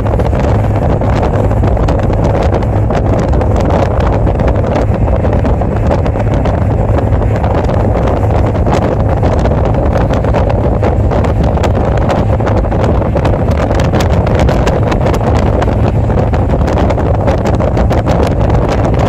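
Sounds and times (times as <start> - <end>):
motorcycle engine and road noise: 0.0 - 19.0
wind buffeting microphone: 0.0 - 19.0
wind crackles: 0.0 - 19.0.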